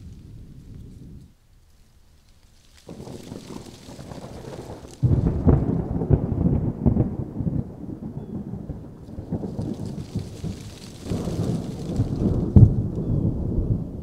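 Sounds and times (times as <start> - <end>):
thunder rumbling: 2.8 - 14.0.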